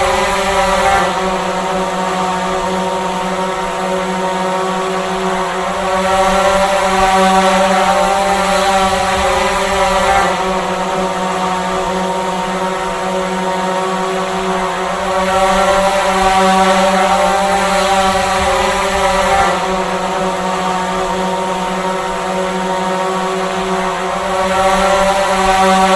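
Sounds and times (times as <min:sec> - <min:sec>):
drone propellers buzzing: 0:00.0 - 0:25.9.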